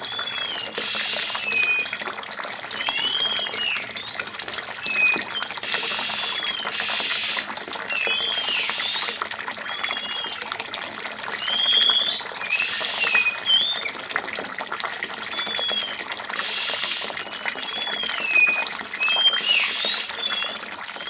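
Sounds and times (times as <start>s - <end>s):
sliding whistled bird notes: 0.0s - 1.9s, 2.8s - 4.1s, 4.9s - 10.4s, 11.4s - 13.9s, 15.3s - 21.0s
water trickling: 0.0s - 21.0s.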